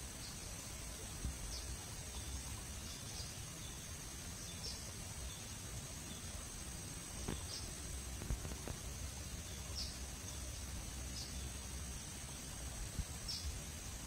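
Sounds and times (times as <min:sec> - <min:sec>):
faint chirps: 0:00.0 - 0:14.0
insects droning: 0:00.0 - 0:14.0.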